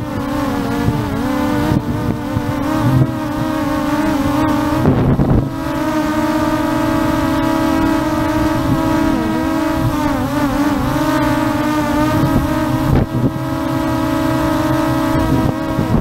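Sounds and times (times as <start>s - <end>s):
drone propellers whining: 0.0s - 16.0s
wind rumble on microphone: 0.0s - 16.0s.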